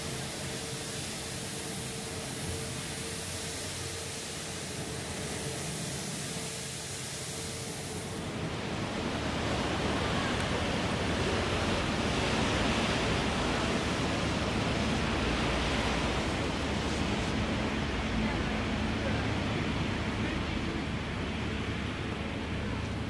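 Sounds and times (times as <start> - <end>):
steady rushing outdoor noise: 0.0 - 23.0.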